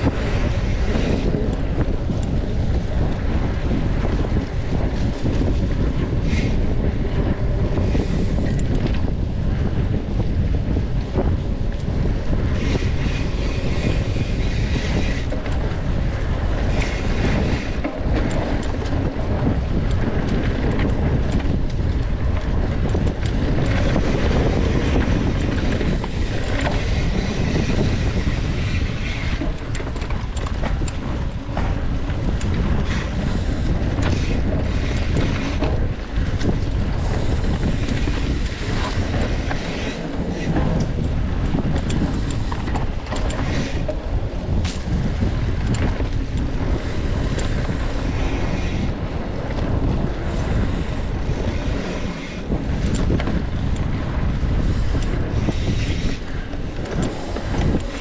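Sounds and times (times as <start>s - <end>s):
bike clicks and rattles: 0.0s - 58.0s
wind buffeting microphone: 0.0s - 58.0s.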